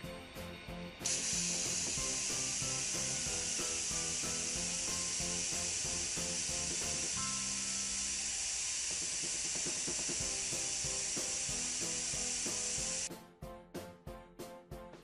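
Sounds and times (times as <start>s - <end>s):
background music: 0.0s - 8.0s, 9.7s - 15.0s
aerosol spray can hissing: 1.0s - 13.1s.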